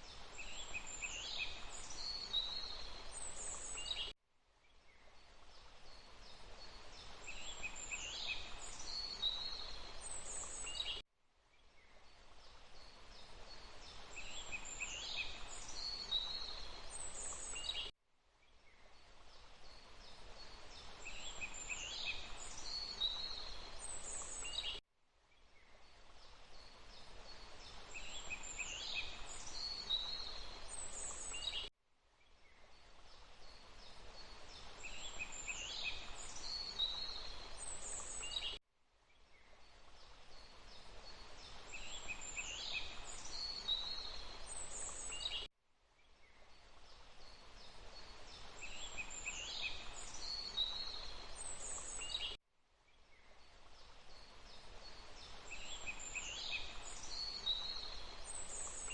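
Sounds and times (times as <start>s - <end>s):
rushing water: 0.0s - 4.0s, 5.2s - 10.9s, 12.0s - 17.9s, 18.8s - 24.8s, 25.8s - 31.6s, 32.7s - 38.5s, 39.6s - 45.4s, 46.4s - 52.3s, 53.4s - 58.9s.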